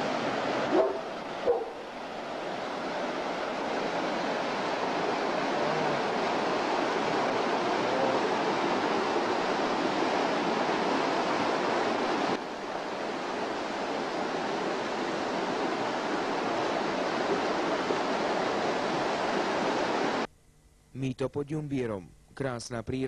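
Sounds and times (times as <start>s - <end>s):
fast-flowing stream rushing: 0.0s - 20.3s.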